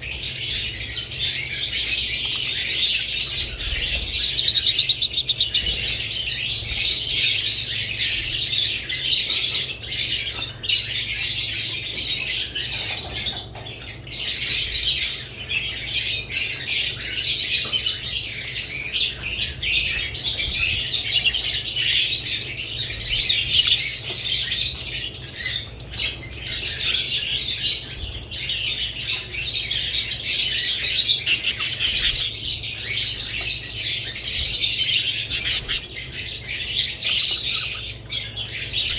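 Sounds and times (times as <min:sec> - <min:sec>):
parakeets chirping and chattering: 0:00.0 - 0:38.9.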